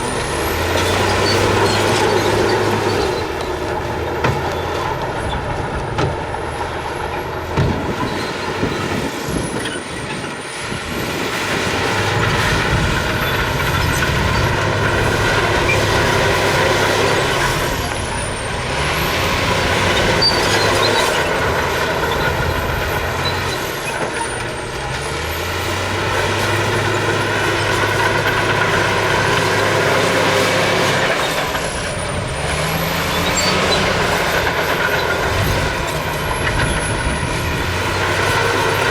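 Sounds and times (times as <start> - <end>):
heavy diesel engines under load: 0.0 - 38.9.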